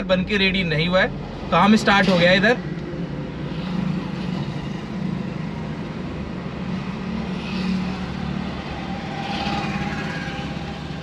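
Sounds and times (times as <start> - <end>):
vehicle engine and tyre noise: 0.0 - 11.0.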